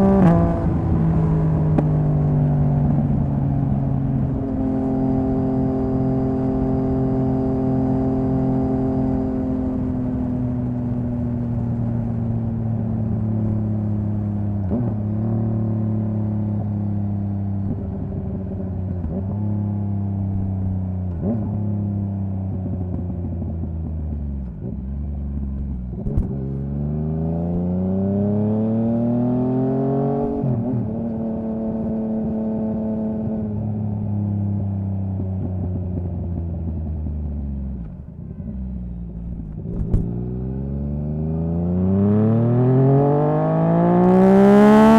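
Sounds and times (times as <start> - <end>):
motorcycle engine and exhaust: 0.0 - 44.9.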